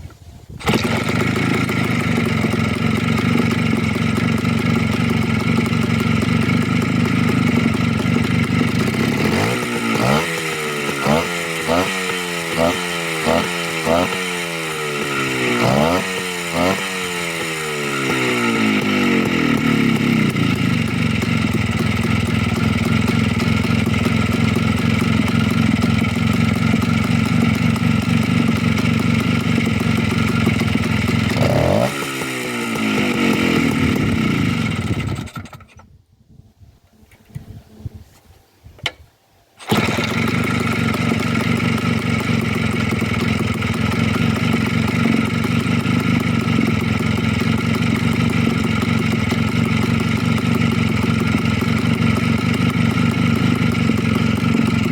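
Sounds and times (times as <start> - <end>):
two-stroke motorcycle engine: 0.6 - 35.9, 39.6 - 54.9.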